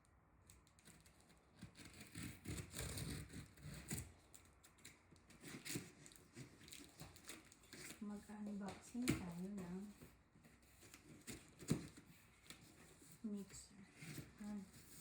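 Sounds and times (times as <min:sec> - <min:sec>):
cardboard rustling and tearing: 0:00.7 - 0:15.0.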